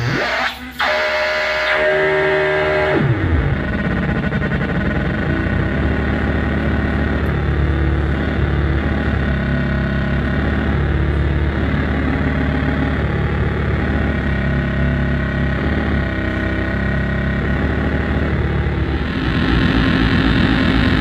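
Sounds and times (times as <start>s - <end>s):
low dense synthesizer drone: 0.0s - 21.0s.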